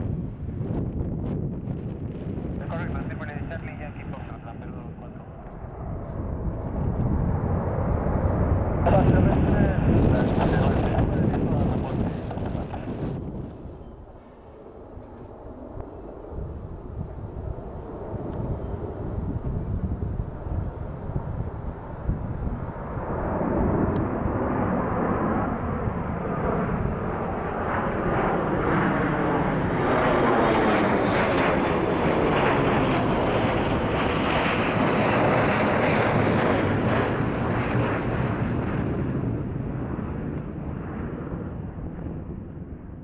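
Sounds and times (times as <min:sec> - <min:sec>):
jet passing overhead: 0:00.0 - 0:43.0.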